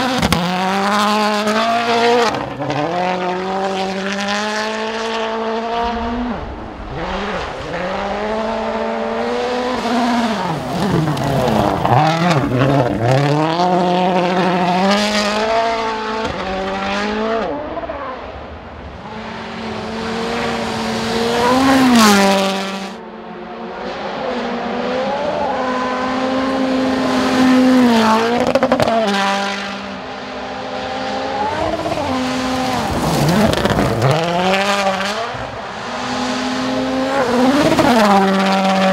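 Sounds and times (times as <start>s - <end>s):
rally car engine at full throttle: 0.0s - 38.9s.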